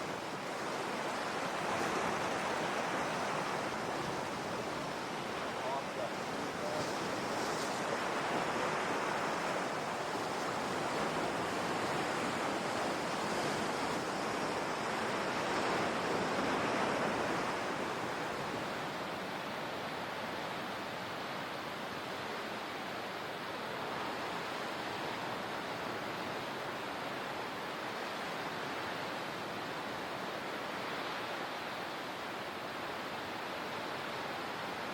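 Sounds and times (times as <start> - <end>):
ocean surf washing ashore: 0.0 - 34.9.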